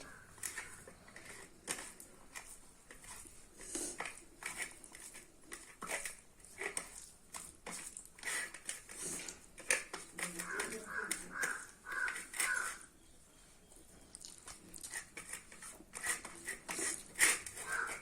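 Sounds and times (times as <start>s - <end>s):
man chewing food: 0.0s - 18.0s.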